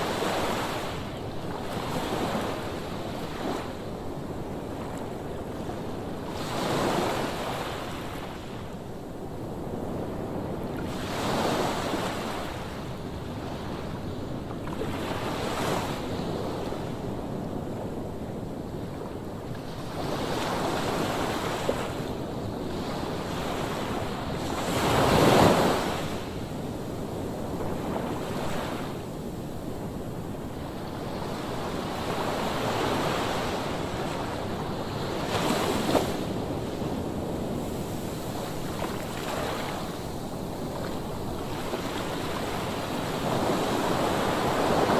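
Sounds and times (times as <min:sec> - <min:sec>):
waves surging and washing: 0:00.0 - 0:44.9
wind: 0:00.0 - 0:44.9.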